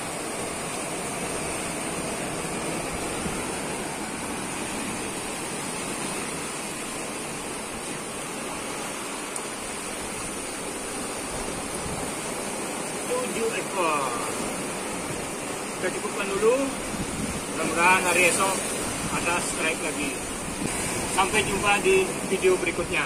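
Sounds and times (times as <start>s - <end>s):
sea surf on shore: 0.0s - 23.0s.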